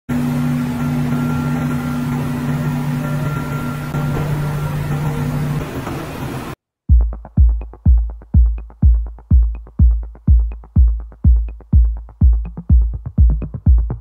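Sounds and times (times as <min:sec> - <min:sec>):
electronic dance music: 0:01.1 - 0:14.0.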